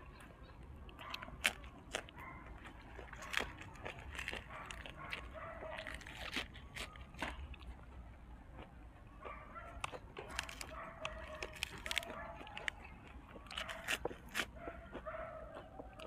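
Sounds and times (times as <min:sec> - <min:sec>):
crunching and chewing: 0:00.0 - 0:16.0.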